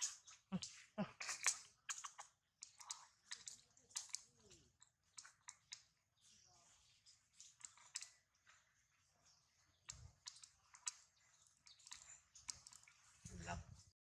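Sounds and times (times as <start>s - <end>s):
faint irregular clicks and crackles: 0.0s - 14.0s.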